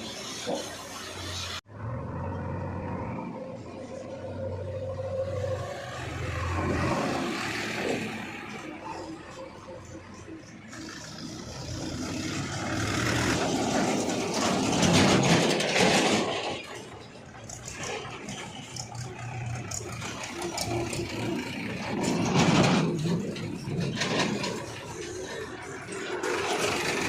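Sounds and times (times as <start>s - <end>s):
heavy diesel engine revving: 0.0s - 16.4s, 17.2s - 27.0s.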